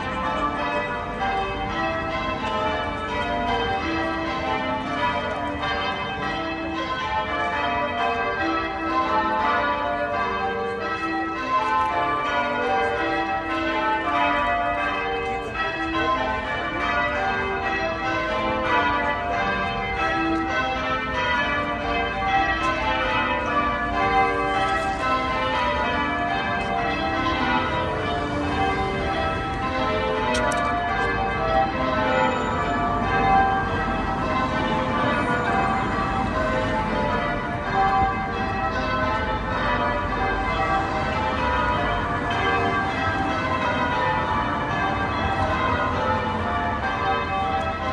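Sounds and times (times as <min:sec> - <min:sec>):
tower bells change ringing: 0:00.0 - 0:47.9.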